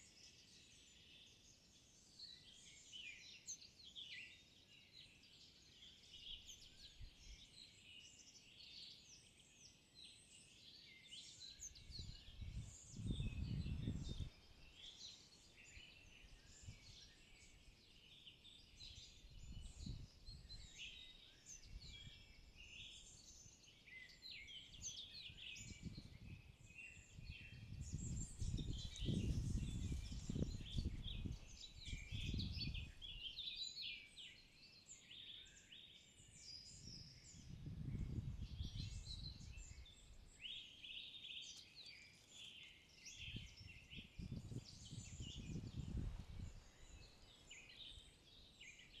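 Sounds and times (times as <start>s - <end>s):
songbirds chorus: 0.0s - 49.0s.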